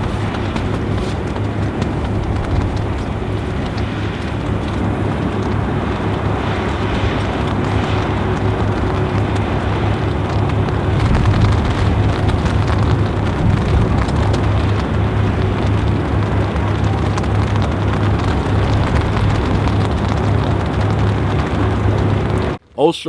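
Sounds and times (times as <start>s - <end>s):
heavy rain falling: 0.0s - 22.7s
low drone: 0.0s - 22.8s.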